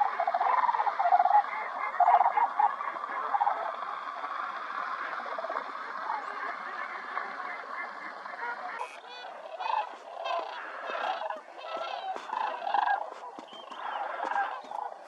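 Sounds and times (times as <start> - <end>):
flock of birds calling: 0.0 - 15.0
loud rattling bird calls: 0.0 - 15.0.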